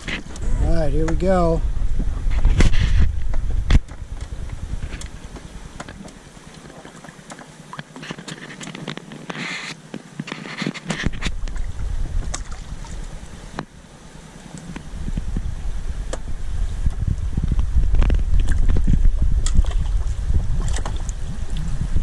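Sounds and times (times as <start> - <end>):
water rushing: 0.0 - 22.0
wind rumbling on microphone: 0.0 - 22.0.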